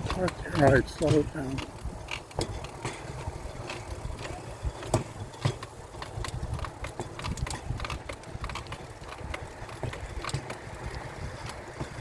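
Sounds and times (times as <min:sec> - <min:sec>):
rail bike wheels rumbling: 0:00.0 - 0:12.0.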